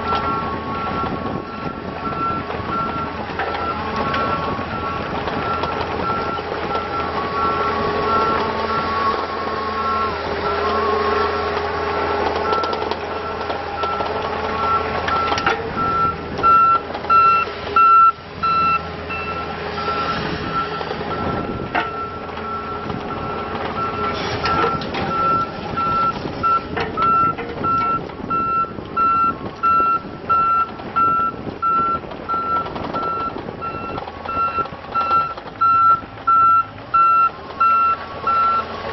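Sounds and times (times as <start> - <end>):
diesel engine running: 0.0 - 38.9
excavator travel alarm beeping: 0.0 - 38.9.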